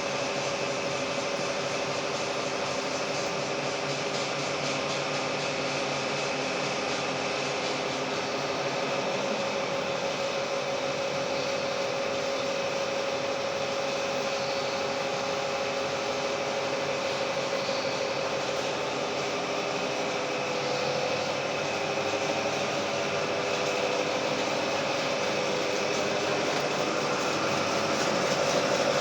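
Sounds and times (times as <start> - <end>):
milling machine hum: 0.0 - 29.0.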